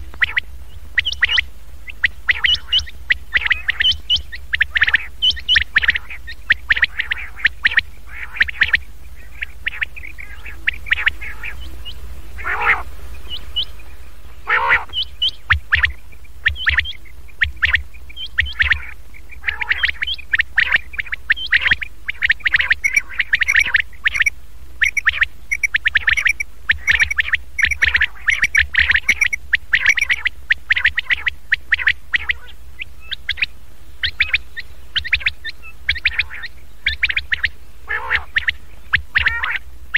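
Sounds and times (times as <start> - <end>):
quail calls: 0.0 - 39.7
steady low hum: 0.0 - 39.9.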